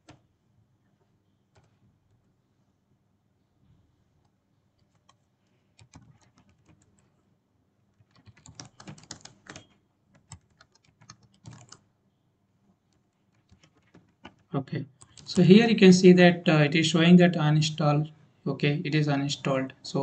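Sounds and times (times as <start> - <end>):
faint keyboard typing: 0.0 - 2.6, 3.6 - 20.0.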